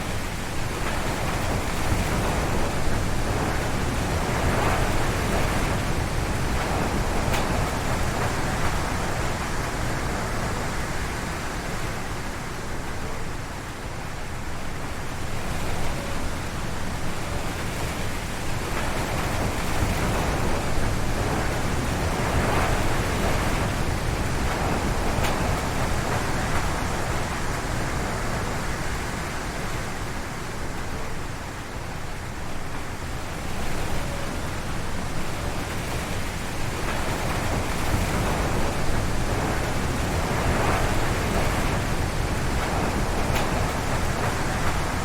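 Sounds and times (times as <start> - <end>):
strong wind through trees: 0.0 - 45.0.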